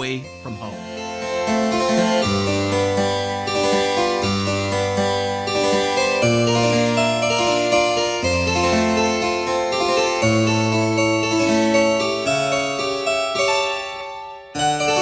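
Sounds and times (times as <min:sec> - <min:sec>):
harpsichord-like keyboard music: 0:00.0 - 0:15.0.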